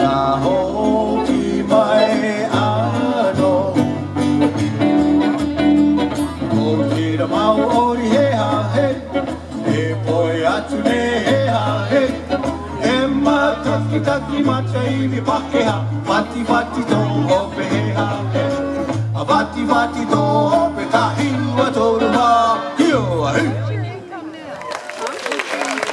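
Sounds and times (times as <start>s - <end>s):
person singing: 0.0s - 23.6s
ukulele: 0.0s - 23.8s
bass line: 0.0s - 23.9s
plucked electric guitars: 0.0s - 24.1s.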